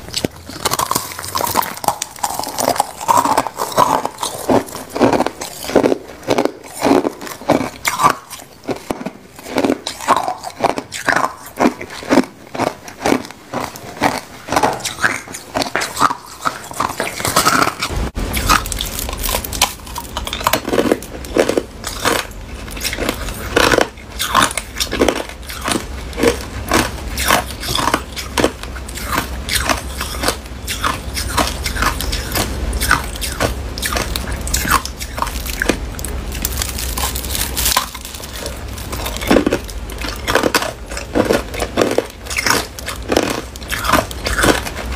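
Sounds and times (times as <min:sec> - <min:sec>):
ice crunching between teeth: 0:00.0 - 0:44.9
steady low hum: 0:00.0 - 0:44.9.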